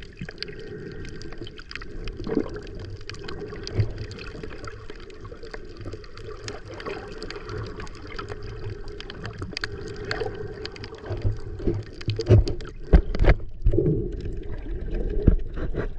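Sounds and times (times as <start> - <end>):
water sloshing and gurgling: 0.0 - 15.9.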